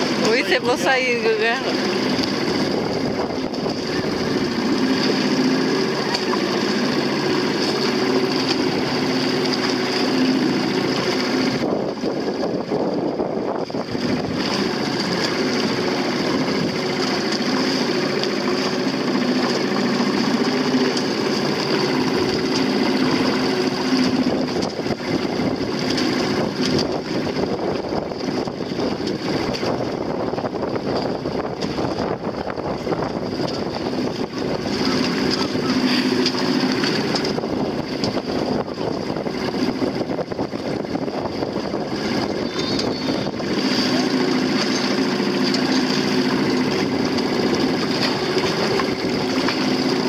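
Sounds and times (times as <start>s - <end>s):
outboard motor drone: 0.0s - 50.0s.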